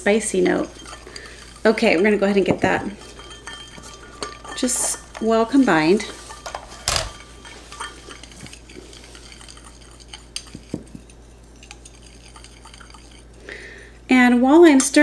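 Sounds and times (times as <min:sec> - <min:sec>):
utensil clinking against container: 0:00.1 - 0:13.8.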